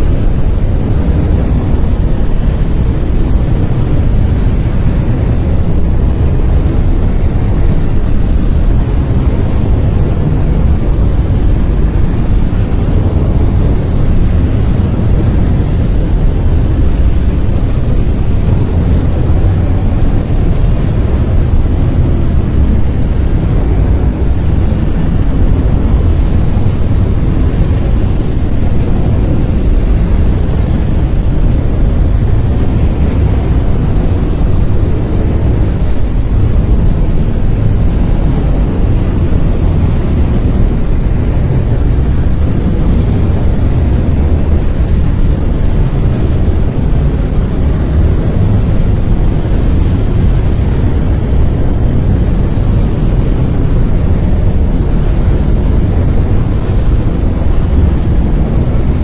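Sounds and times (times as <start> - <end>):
brown noise: 0.0 - 59.0.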